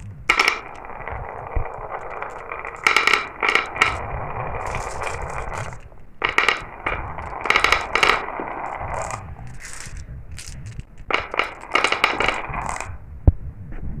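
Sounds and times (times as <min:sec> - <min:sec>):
marbles clicking down a run: 0:00.0 - 0:13.0
low rolling rumble: 0:00.0 - 0:13.2.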